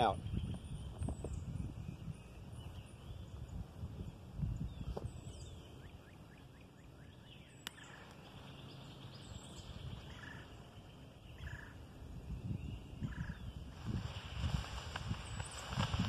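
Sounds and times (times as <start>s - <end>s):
small birds chirping: 0.0s - 16.0s
wind rumbling on microphone: 0.0s - 16.0s.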